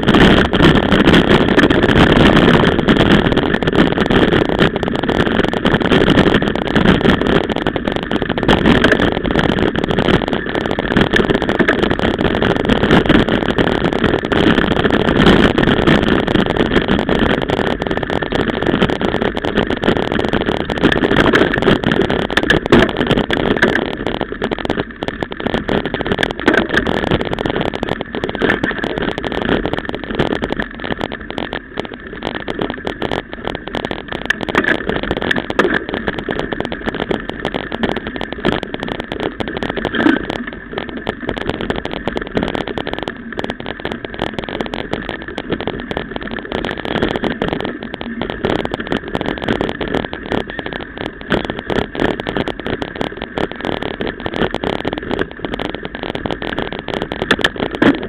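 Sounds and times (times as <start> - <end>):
mountain bike rattling over grass: 0.0 - 58.0.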